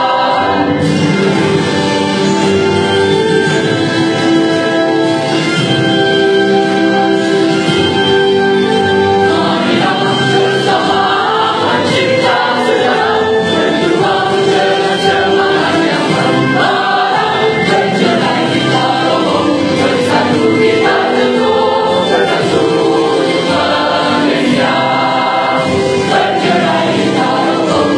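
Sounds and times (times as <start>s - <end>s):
mixed choir singing slowly: 0.0s - 27.9s.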